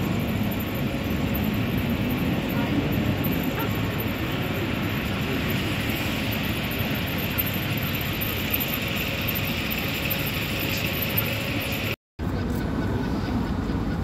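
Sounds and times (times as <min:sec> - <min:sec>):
traffic rumble with hiss: 0:00.0 - 0:14.0.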